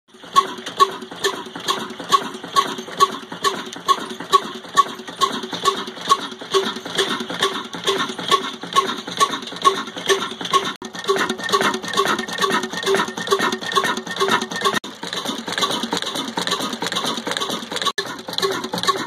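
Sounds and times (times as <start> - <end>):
diesel engine heavy beat: 0.1 - 19.0.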